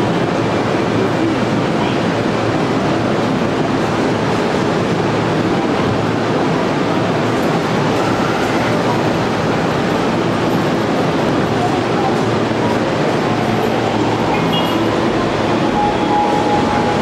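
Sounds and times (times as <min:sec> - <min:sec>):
electric train running slowly: 0:00.0 - 0:17.0.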